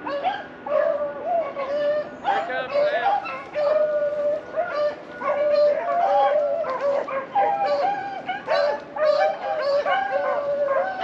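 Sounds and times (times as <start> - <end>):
hounds baying and howling: 0.0 - 11.0.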